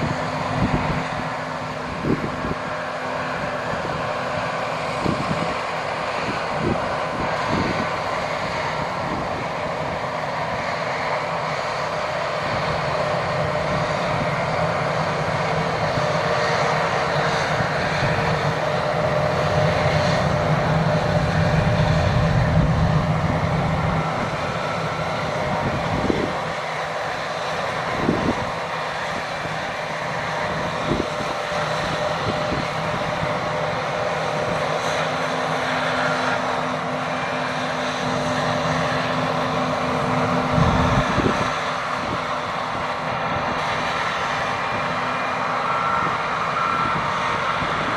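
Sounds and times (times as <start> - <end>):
combine harvester engine and threshing: 0.0 - 47.9.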